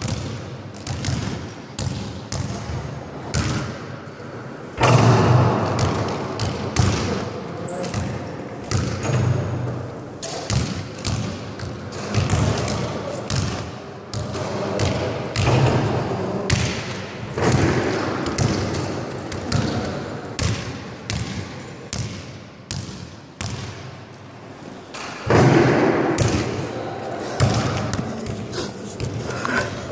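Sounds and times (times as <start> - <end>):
basketballs bouncing in hall: 0.0 - 29.9.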